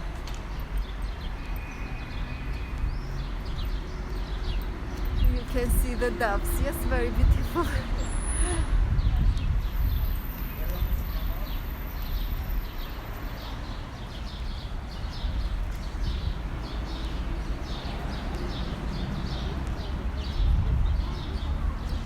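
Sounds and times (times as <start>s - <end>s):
low rumble of street noise: 0.0s - 22.0s.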